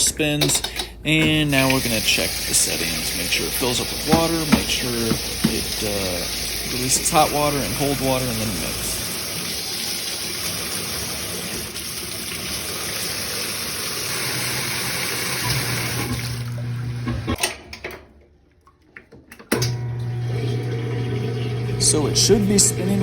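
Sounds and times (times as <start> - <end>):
drain pump humming: 0.0 - 17.4, 19.6 - 23.0
water rushing into washing machine tub: 1.1 - 17.4, 19.6 - 23.0.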